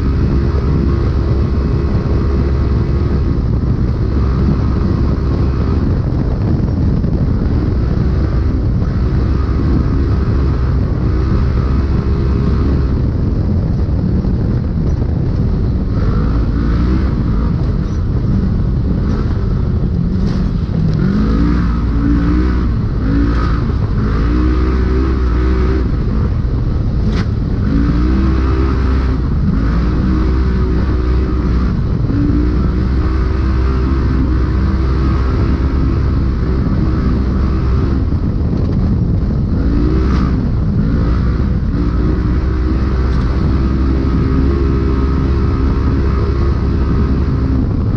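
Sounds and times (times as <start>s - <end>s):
road and tyre noise: 0.0s - 47.9s
vehicle engine revving: 0.0s - 47.9s.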